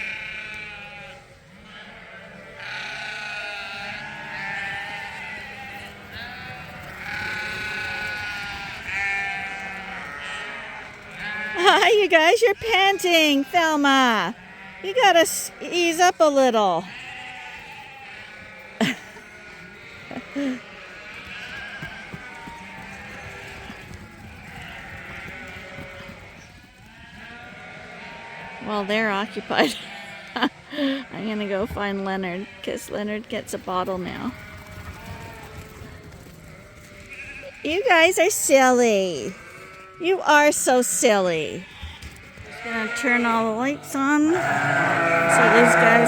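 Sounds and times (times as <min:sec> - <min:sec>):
lambs bleating: 0:00.0 - 0:33.1, 0:36.5 - 0:46.0.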